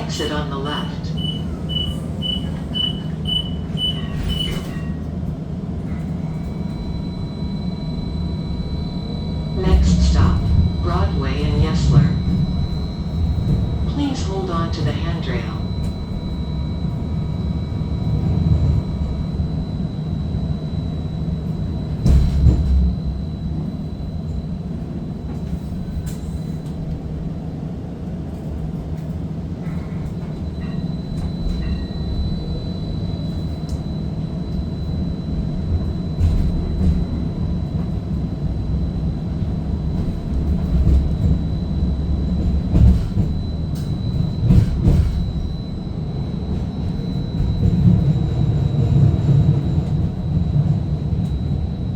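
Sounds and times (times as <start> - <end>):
streetcar rumbling on rails: 0.0 - 51.9.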